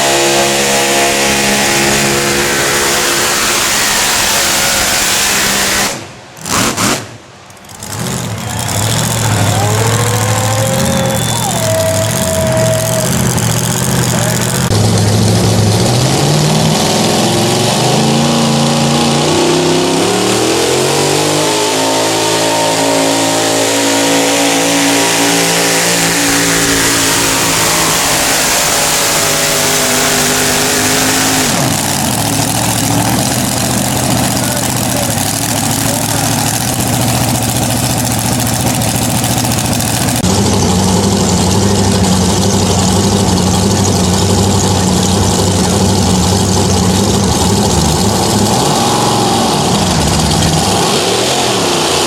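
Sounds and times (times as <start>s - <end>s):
truck engine revving under load: 0.0s - 52.0s.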